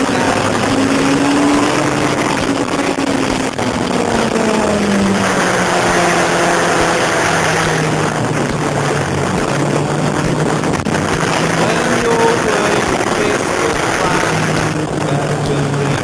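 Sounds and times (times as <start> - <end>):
motorcycle engine slowing: 0.0 - 16.0
wind noise on microphone: 0.0 - 16.0.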